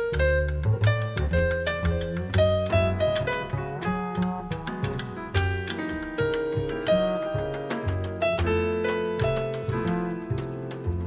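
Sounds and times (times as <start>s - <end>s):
double bass line: 0.0s - 11.0s.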